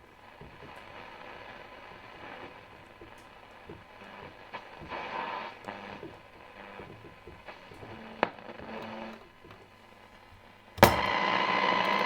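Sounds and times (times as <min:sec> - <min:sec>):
faint crackles: 0:00.0 - 0:12.0
radio static and hiss: 0:00.0 - 0:12.0.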